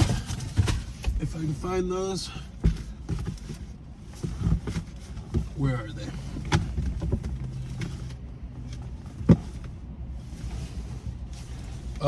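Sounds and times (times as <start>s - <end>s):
rummaging through a box: 0.0s - 1.7s, 2.4s - 12.0s.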